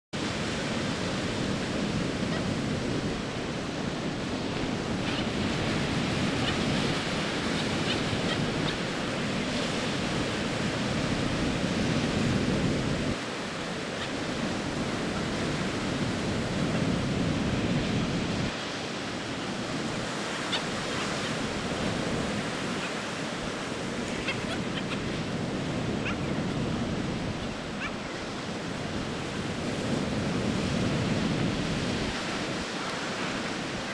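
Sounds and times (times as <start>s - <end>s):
surf washing on a beach: 0.2s - 33.9s
wind rumbling on microphone: 0.2s - 33.9s.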